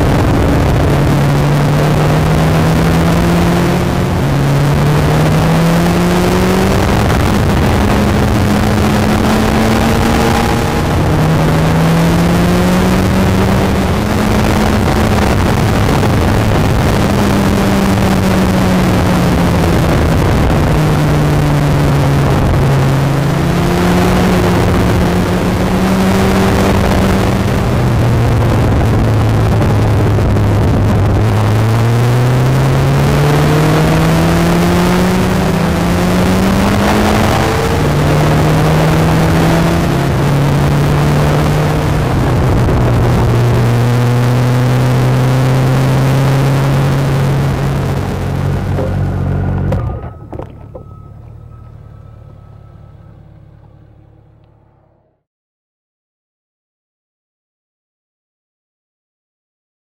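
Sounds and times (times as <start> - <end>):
wind noise: 0.0 - 52.0
motorcycle engine revving: 0.0 - 55.3
road noise: 0.0 - 55.3.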